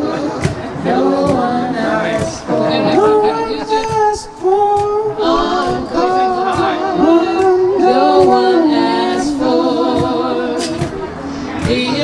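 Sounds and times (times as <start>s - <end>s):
a cappella group singing harmony: 0.0s - 12.0s.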